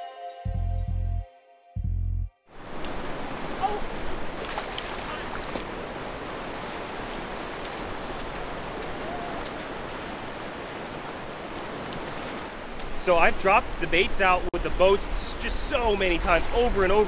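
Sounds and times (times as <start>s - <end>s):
ocean surf breaking: 2.5s - 17.0s.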